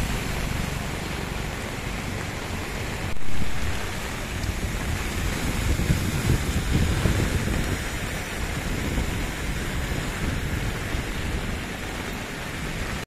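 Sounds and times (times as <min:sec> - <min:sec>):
heavy rain on a flooded road: 0:00.0 - 0:13.0.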